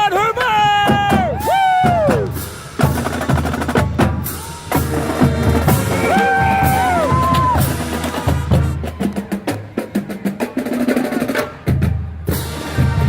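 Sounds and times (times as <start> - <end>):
snare drums: 0.3 - 13.0.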